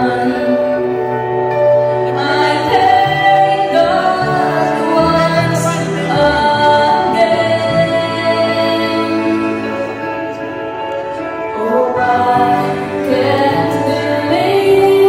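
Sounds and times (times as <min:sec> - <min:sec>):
woman singing: 0:00.0 - 0:01.1, 0:02.0 - 0:10.0, 0:11.4 - 0:15.0
instrumental accompaniment: 0:00.0 - 0:15.0.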